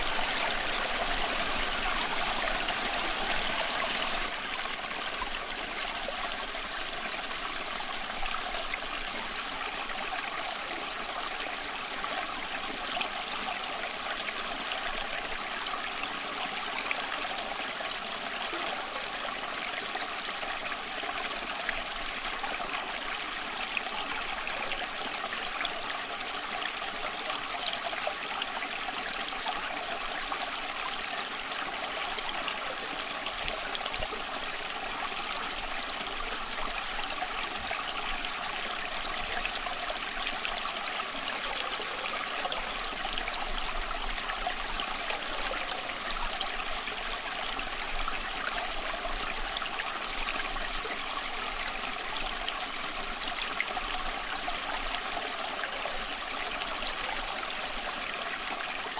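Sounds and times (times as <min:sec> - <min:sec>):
stream flowing: 0:00.0 - 0:58.9.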